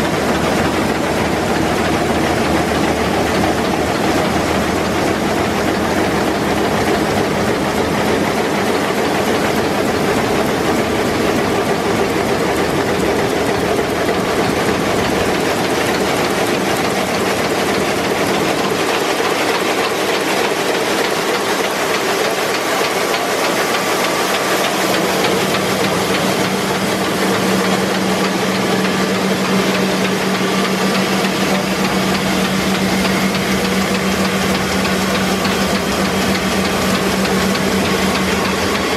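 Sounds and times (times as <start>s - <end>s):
printing press running: 0.0s - 38.9s.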